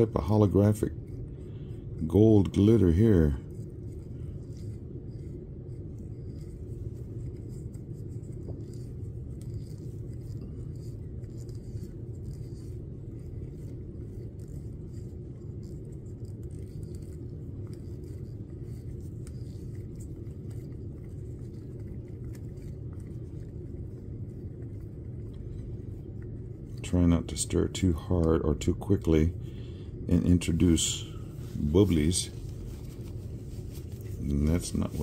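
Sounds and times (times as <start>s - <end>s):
stir stick scraping in cup: 0.0s - 29.2s
low background rumble: 0.0s - 35.0s.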